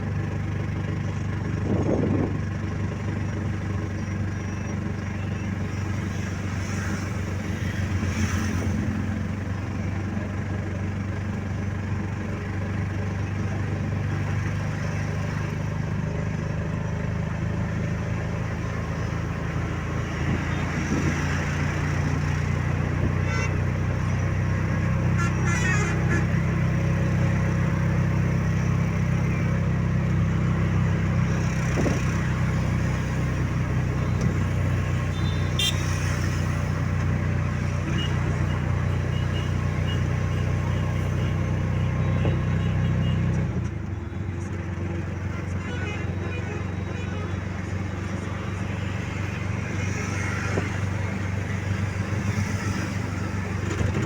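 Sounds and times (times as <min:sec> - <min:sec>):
road noise: 0:00.0 - 0:54.0
vehicle engine drone: 0:00.0 - 0:54.0.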